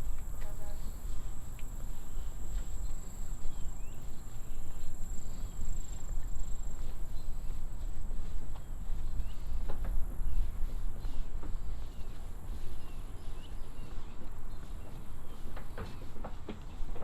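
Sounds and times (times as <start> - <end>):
high insect whine: 0.0 - 14.2.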